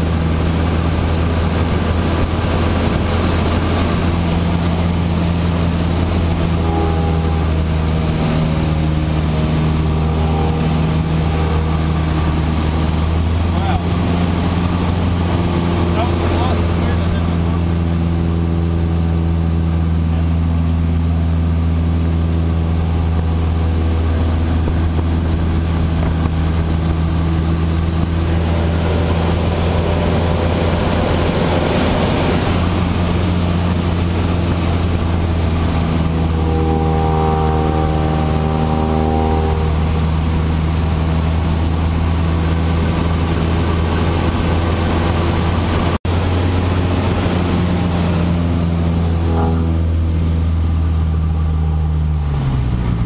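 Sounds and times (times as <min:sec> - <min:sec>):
propeller plane engine droning: 0:00.0 - 0:53.0
rushing noise: 0:00.0 - 0:53.0
higher tone: 0:00.2 - 0:53.0.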